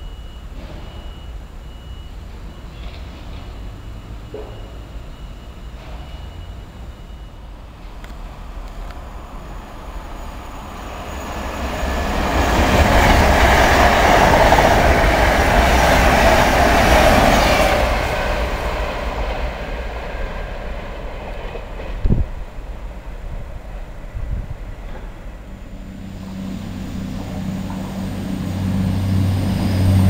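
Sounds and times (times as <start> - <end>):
train wheels rushing on rails: 2.6 - 30.0.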